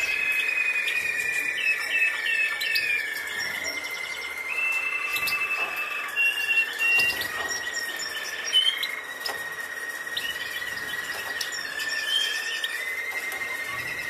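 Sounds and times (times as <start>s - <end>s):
small birds chirping: 0.0s - 14.0s
steady high-pitched whine: 0.0s - 14.0s.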